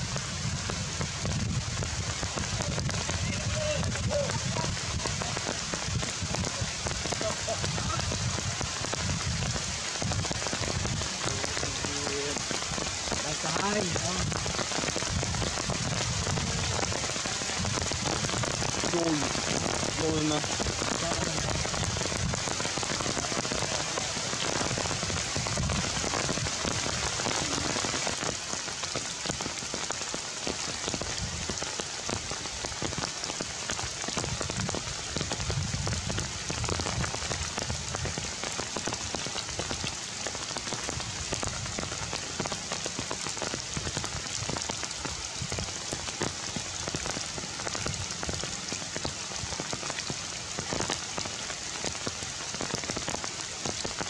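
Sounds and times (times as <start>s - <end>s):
rain falling on foliage: 0.0s - 54.0s.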